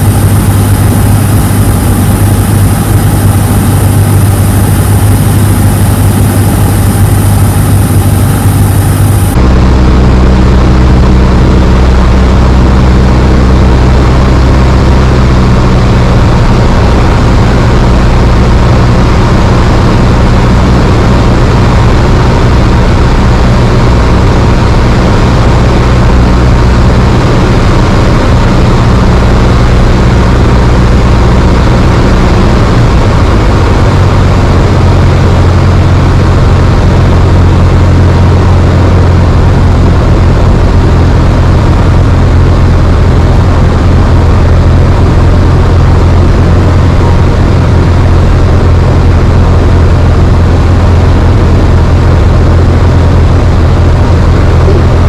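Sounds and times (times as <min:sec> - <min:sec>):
aircraft engine drone: 0:00.0 - 0:55.0
rushing wind noise: 0:00.0 - 0:55.0.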